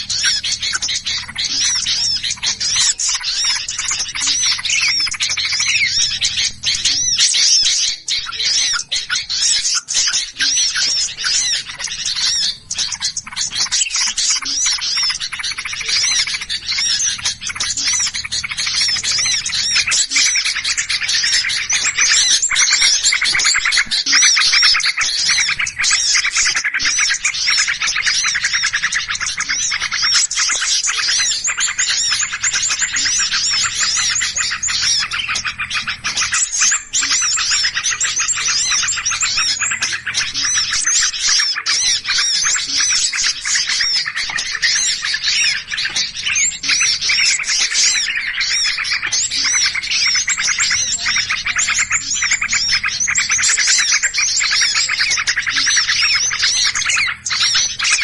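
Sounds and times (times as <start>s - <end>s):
many small birds chirping: 0.0s - 58.0s.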